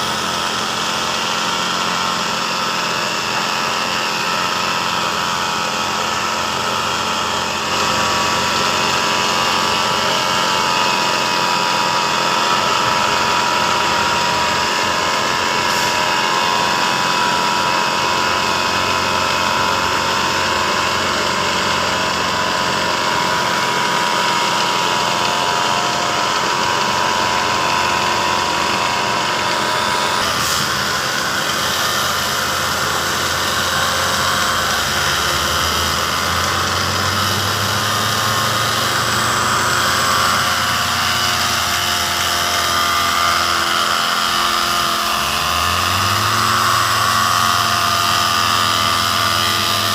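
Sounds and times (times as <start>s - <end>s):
construction machinery engine: 0.0s - 49.9s
whining motor: 0.0s - 49.9s.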